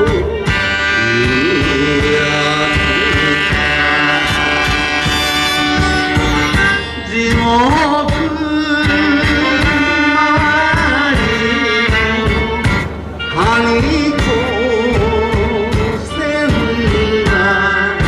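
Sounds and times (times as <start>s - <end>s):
live band with guitars and drums: 0.0s - 18.0s
man singing: 0.0s - 18.0s.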